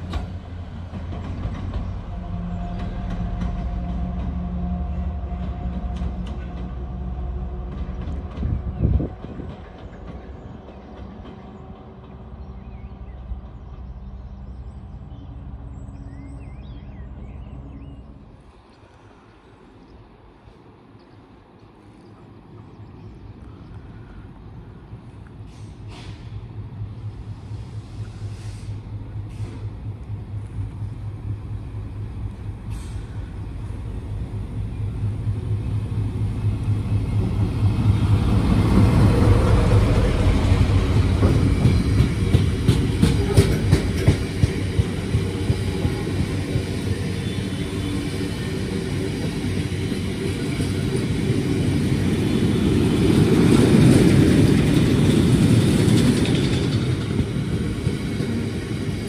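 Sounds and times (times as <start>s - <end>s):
diesel locomotive passing at speed: 0.0s - 59.0s.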